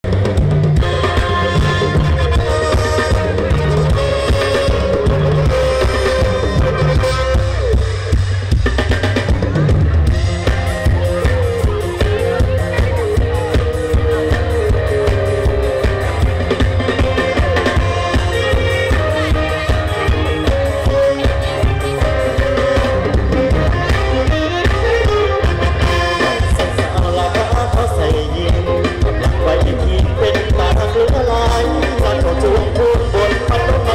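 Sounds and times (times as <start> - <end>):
heavy drum and bass beat: 0.0 - 33.9
live band music: 0.0 - 33.9
wavering lead melody: 0.5 - 8.9, 9.6 - 33.9.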